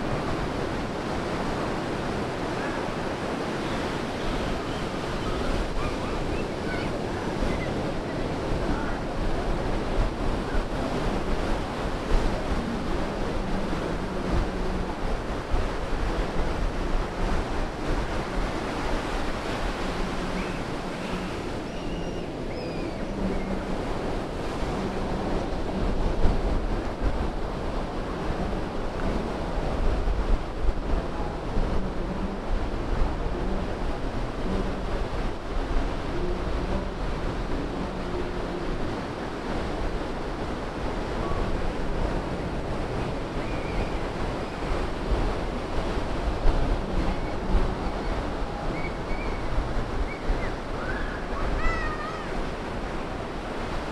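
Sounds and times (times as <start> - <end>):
surf washing over sand: 0.0 - 53.9
wind on microphone: 0.0 - 53.9.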